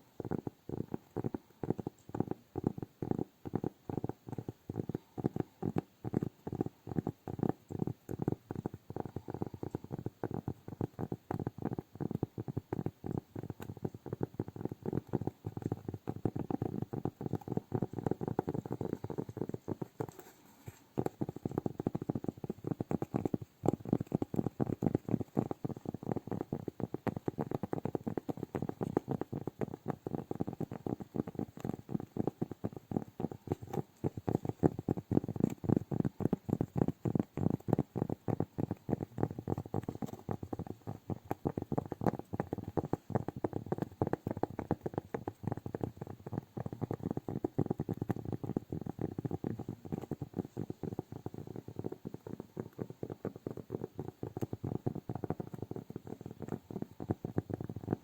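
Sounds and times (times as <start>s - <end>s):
hands tapping and clicking: 0.0s - 58.0s.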